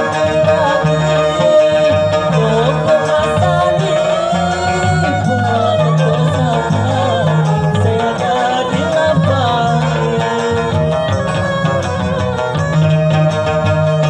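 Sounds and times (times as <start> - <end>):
person singing ornamented melody: 0.0 - 13.6
lute and electric guitars: 0.0 - 14.0.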